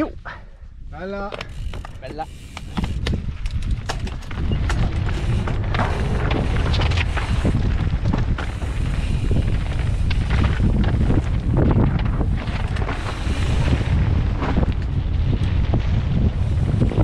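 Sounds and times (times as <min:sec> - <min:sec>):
wind buffeting microphone: 0:00.0 - 0:17.0
bike tyres clattering over stones: 0:01.1 - 0:17.0.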